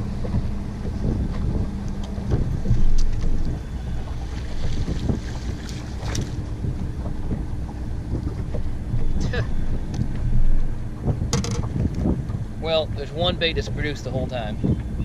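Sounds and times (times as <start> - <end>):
low steady hum: 0.0 - 15.0
water lapping at boat hull: 0.0 - 15.0
wind buffeting microphone: 0.0 - 15.0.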